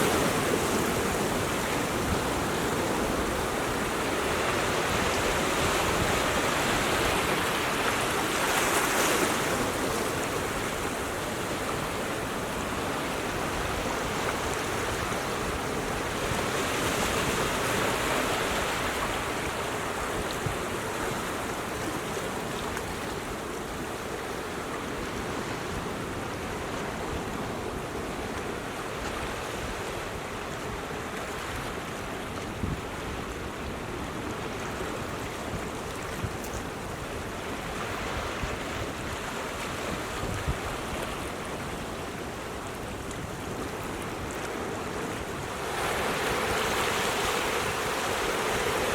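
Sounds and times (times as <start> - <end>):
surf washing on rocky shore: 0.0 - 48.9.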